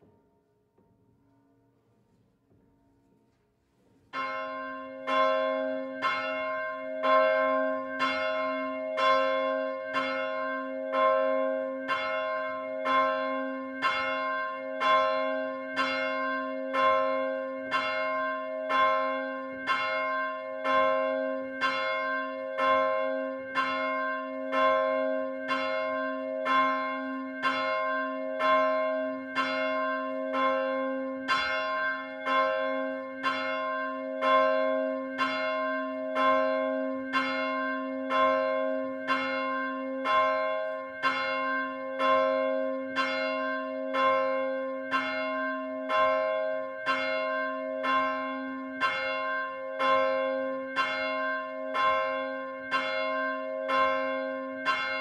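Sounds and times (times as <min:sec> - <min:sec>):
church bell ringing: 0:04.1 - 0:55.0.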